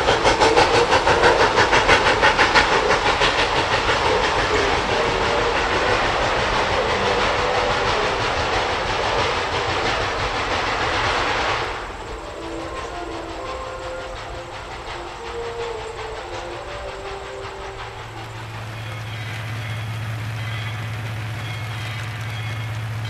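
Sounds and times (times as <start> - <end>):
train clattering on rails: 0.0 - 23.0.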